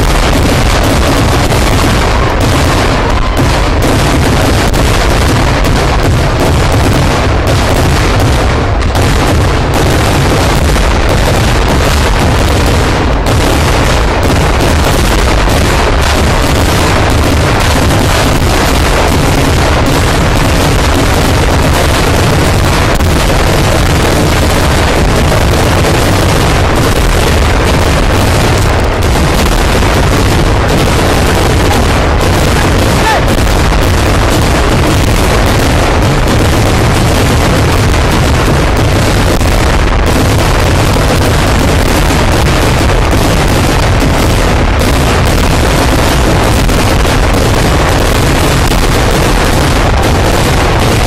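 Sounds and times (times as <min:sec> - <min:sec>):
fireworks barrage: 0:00.0 - 0:51.0
heavy low booms: 0:00.0 - 0:51.0.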